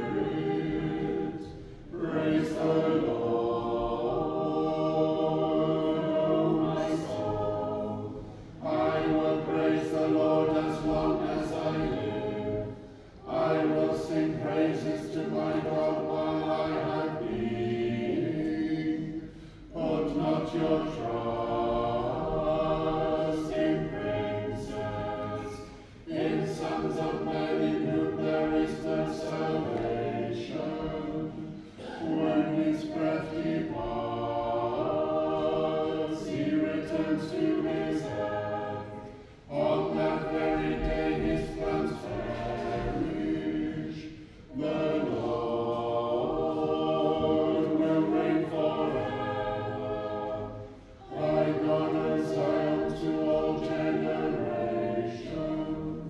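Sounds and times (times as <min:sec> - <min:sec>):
choir chanting unaccompanied: 0:00.0 - 0:56.0.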